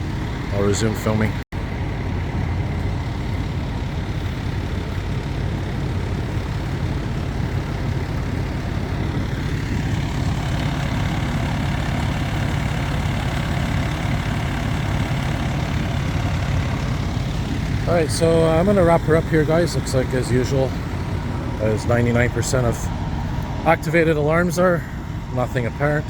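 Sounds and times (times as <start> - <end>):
fire truck engines idling: 0.0 - 26.0.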